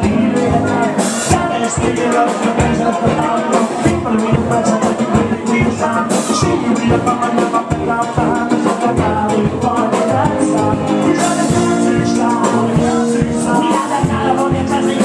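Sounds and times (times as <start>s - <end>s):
live band playing upbeat tune: 0.0s - 15.0s
steady drum beat: 0.0s - 15.0s.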